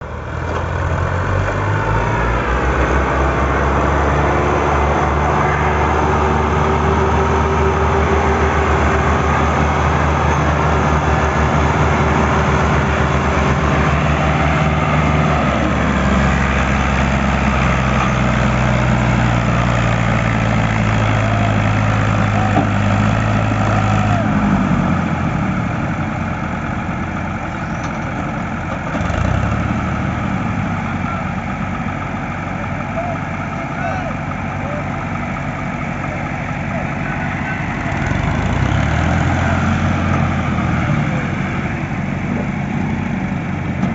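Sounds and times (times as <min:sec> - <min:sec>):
tractor engine chugging: 0:02.8 - 0:43.9.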